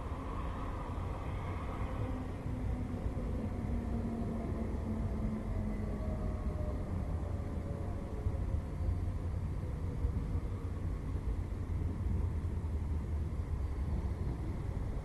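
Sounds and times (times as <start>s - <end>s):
road traffic and trams rumble: 0.0s - 15.0s
wind buffeting microphone: 0.0s - 15.0s.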